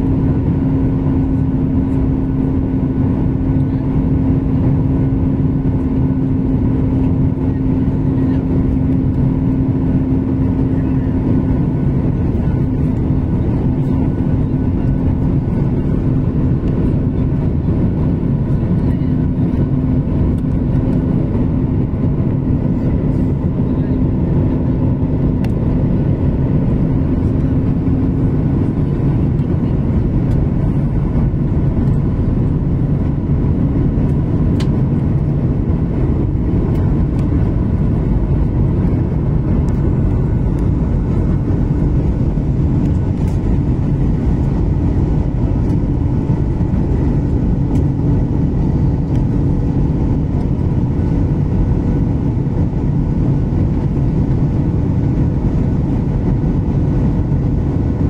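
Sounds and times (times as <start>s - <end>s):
airflow rushing: 0.0s - 58.0s
jet engines droning: 0.0s - 58.0s.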